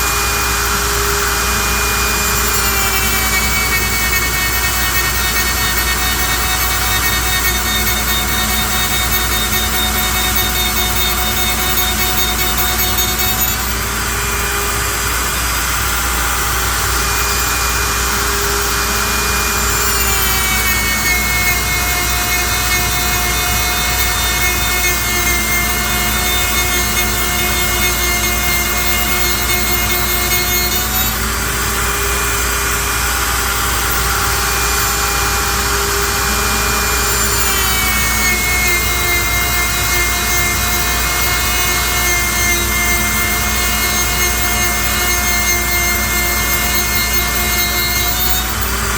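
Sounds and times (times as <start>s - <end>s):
cutter hissing through wood: 0.0s - 48.9s
lathe motor and spindle whine: 0.0s - 48.9s.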